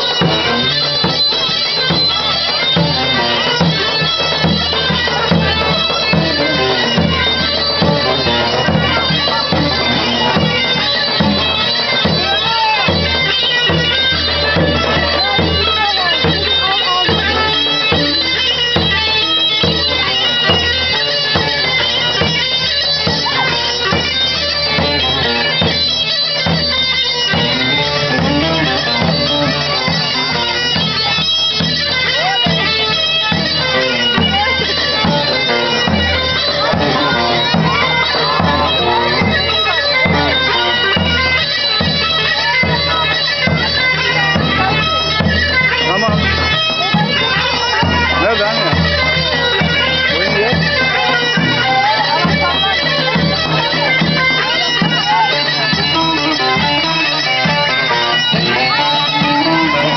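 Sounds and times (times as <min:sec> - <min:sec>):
davul drum beating: 0:00.0 - 0:59.9
reed wind instrument melody: 0:00.0 - 0:59.9.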